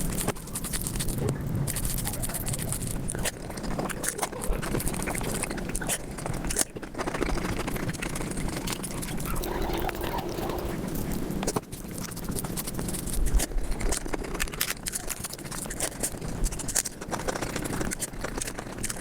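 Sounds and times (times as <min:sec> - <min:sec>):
sped-up chewing sounds: 0:00.0 - 0:19.0.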